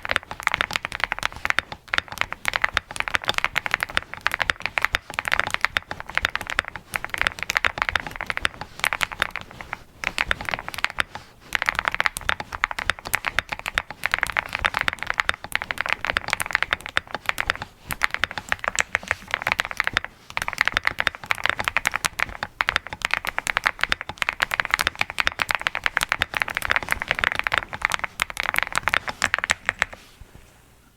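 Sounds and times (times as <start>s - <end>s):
mechanical keyboard typing: 0.0s - 30.1s.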